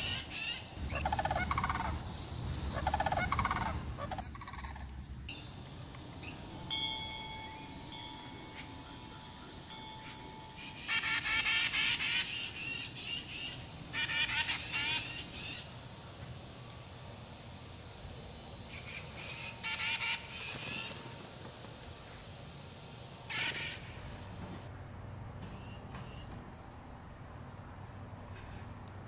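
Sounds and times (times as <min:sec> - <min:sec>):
birds calling: 0:00.0 - 0:24.7
insect chirping: 0:00.0 - 0:24.7.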